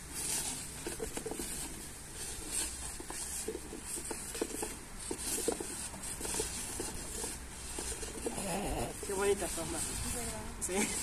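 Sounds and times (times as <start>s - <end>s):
paper cups shuffled on wooden table: 0.0s - 11.0s.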